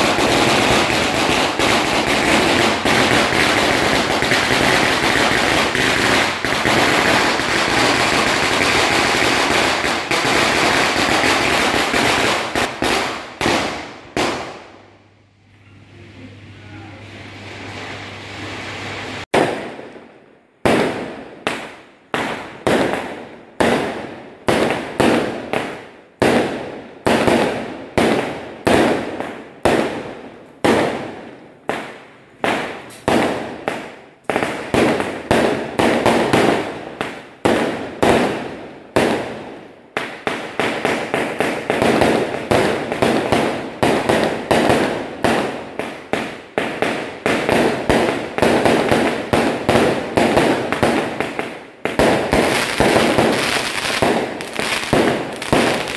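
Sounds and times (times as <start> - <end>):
fireworks bangs: 0.0 - 15.0, 17.4 - 55.9.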